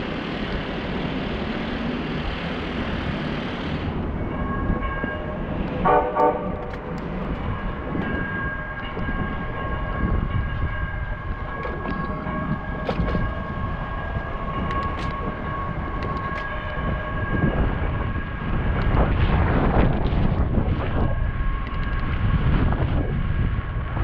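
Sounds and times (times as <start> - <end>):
bicycle road rumble: 0.0 - 24.0
wind noise: 0.0 - 24.0.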